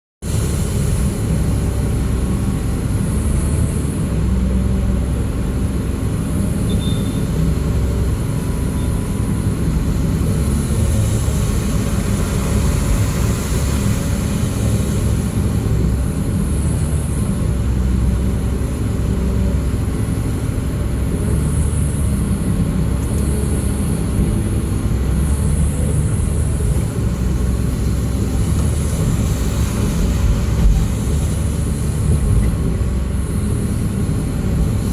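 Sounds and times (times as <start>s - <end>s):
diesel engine rumbling: 0.2s - 34.9s.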